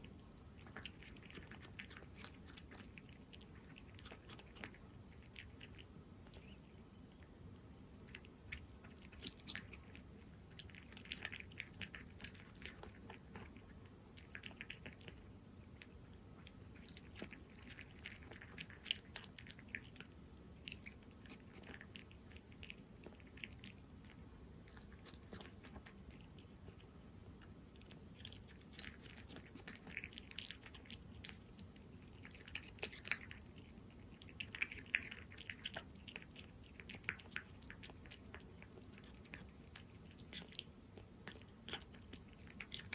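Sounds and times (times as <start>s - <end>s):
cat chewing wet food: 0.0s - 42.9s.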